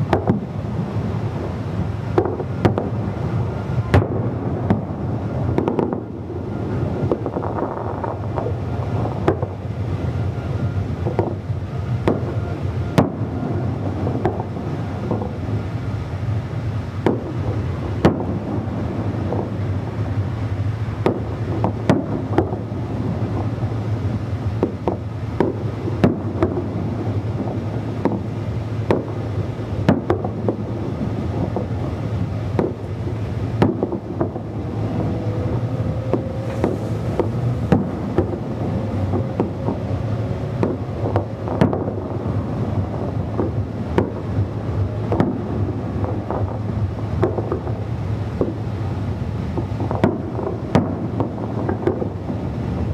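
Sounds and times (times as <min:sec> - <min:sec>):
distant fireworks bangs: 0:00.0 - 0:52.9
low rumble of wind: 0:00.0 - 0:52.9.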